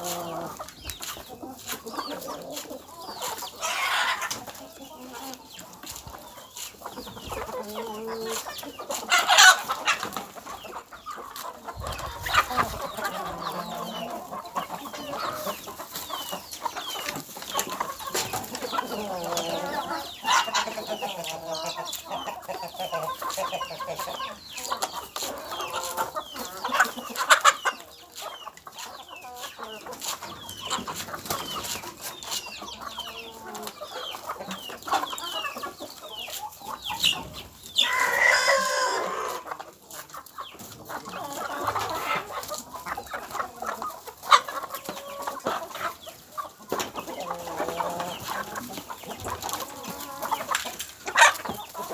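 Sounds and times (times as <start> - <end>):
chickens clucking: 0.0 - 51.9
high chick chirps: 0.0 - 51.9.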